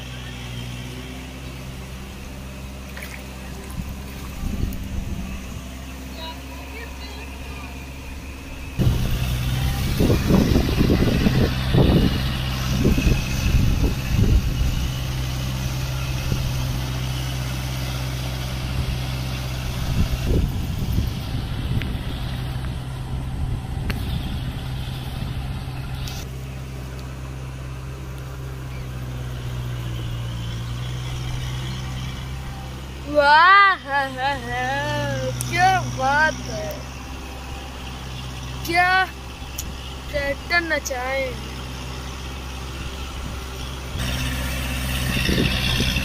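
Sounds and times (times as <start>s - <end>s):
rotavator churning muddy ground: 0.0s - 46.0s
tractor diesel engine running: 0.0s - 46.0s.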